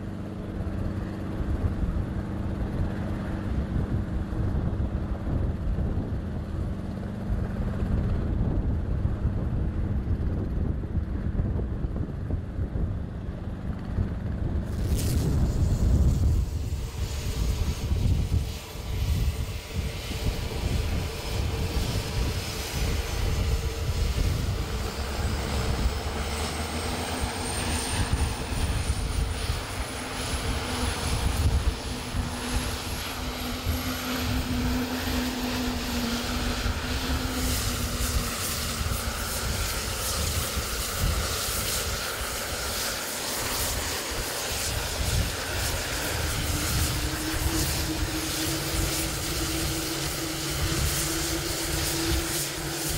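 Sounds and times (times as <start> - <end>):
helicopter turbine whine rising: 0.0 - 52.9.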